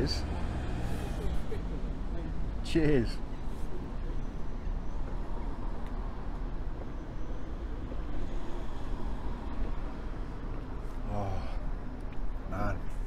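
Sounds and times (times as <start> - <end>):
street ambience rumble: 0.0 - 13.0
traffic noise: 0.0 - 13.0.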